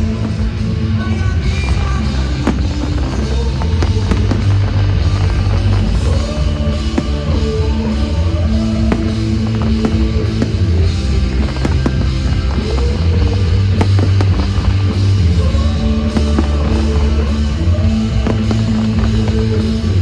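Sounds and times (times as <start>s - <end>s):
music with strong bass: 0.0s - 20.0s
firework bangs: 1.5s - 20.0s.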